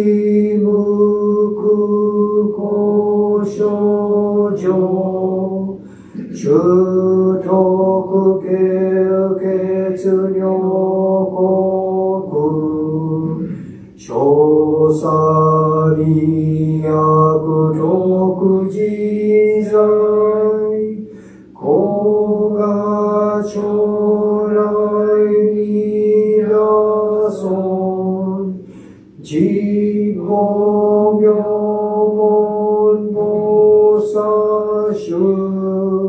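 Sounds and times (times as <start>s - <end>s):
man chanting: 0.0s - 36.0s.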